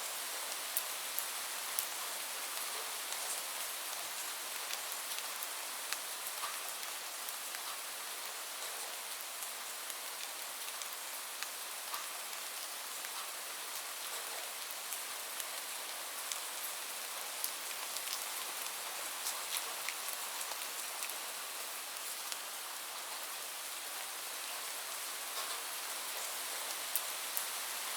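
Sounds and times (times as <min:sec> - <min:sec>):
raindrops pattering on a surface: 0:00.1 - 0:27.9.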